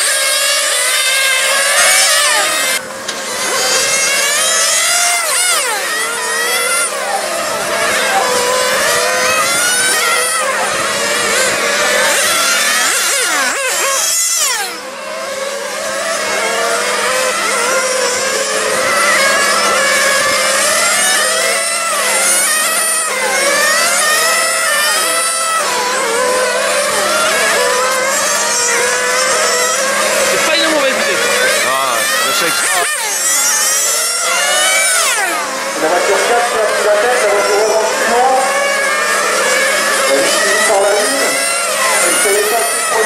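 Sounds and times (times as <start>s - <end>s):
rc car engines revving: 0.0s - 43.0s.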